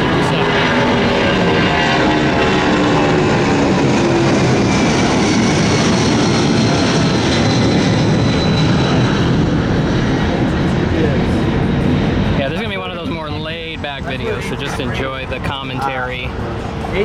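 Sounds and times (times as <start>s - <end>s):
jet airliner taking off: 0.0s - 17.0s.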